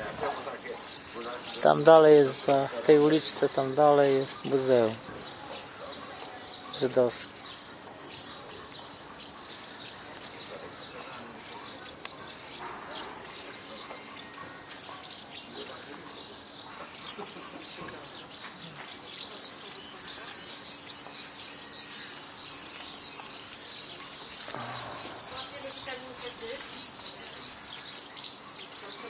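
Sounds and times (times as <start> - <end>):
flock of small birds chirping: 0.0 - 29.0.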